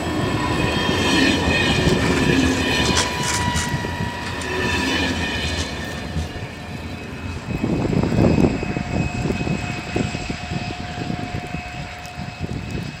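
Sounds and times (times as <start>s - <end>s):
passing train rumble: 0.0s - 13.0s
wind buffeting microphone: 0.0s - 13.0s.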